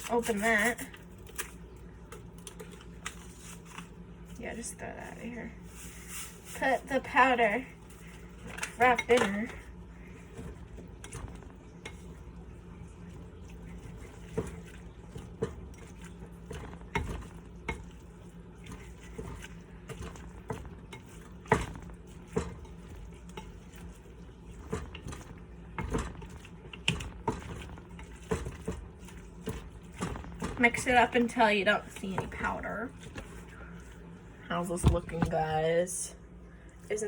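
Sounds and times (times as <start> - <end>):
wooden spoon stirring macaroni: 0.0 - 35.6.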